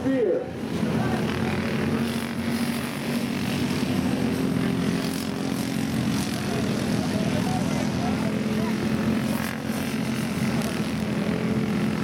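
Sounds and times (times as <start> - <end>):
kart engines buzzing: 0.0 - 12.0.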